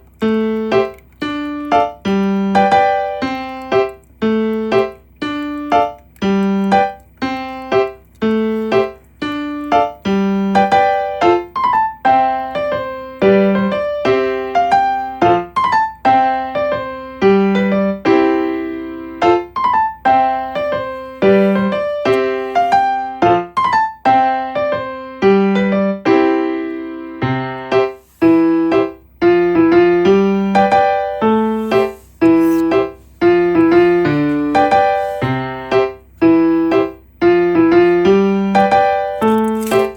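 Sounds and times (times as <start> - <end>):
piano melody: 0.0 - 39.9.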